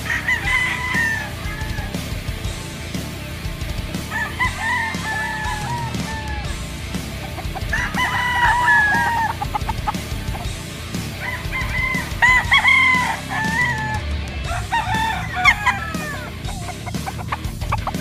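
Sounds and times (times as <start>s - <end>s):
roosters clucking: 0.0s - 18.0s
roosters crowing: 0.0s - 18.0s.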